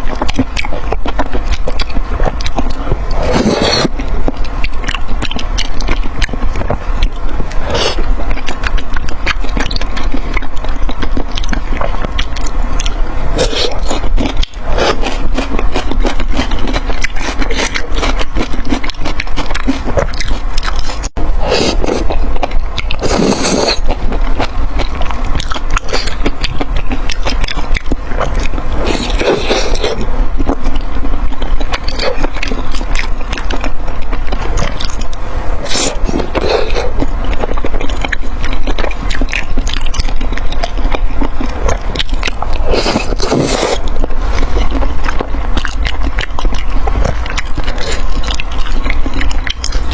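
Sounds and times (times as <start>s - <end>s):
crackling chewing: 0.0s - 49.9s.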